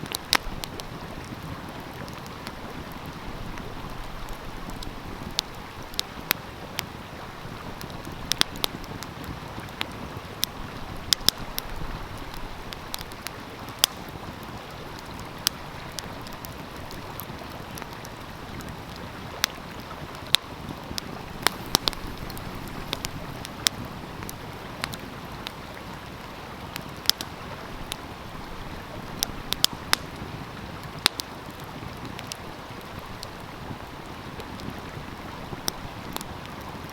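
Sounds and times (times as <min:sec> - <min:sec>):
stream flowing: 0:00.0 - 0:36.9
wood fire crackling: 0:00.0 - 0:36.9.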